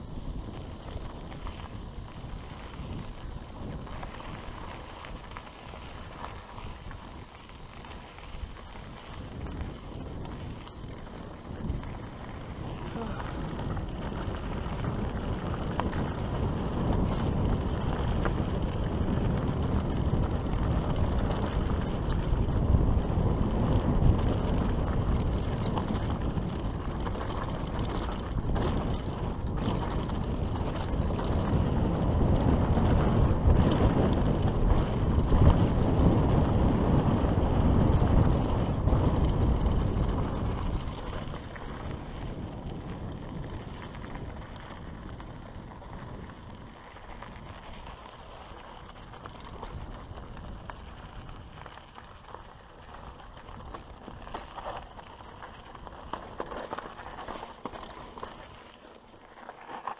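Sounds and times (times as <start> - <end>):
wind buffeting microphone: 0.0 - 58.7
bike tyres rumbling on dirt: 0.0 - 59.9
bike frame rattling and clicking: 0.2 - 59.9.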